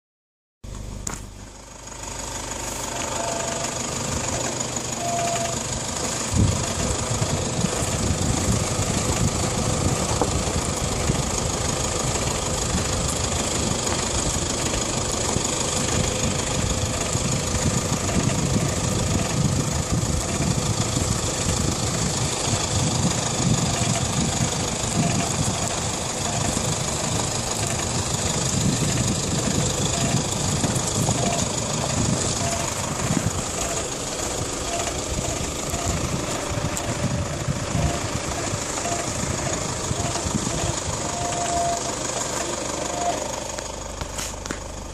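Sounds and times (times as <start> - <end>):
brake knock: 0.7 - 1.4, 2.4 - 44.9
rough low brake noise: 1.0 - 44.9.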